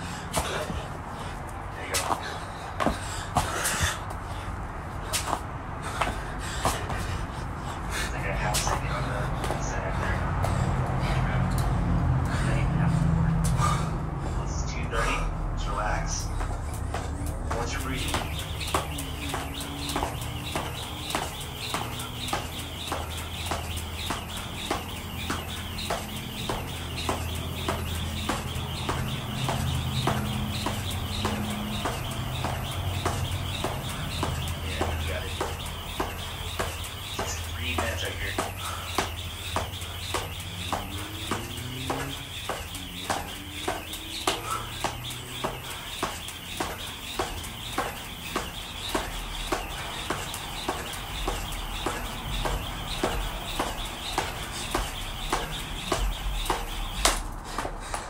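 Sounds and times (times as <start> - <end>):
rope swishing whir: 0.0 - 7.9, 16.2 - 58.0
jump rope slapping concrete: 0.0 - 13.8, 16.1 - 58.0
steady low hum: 0.0 - 58.0.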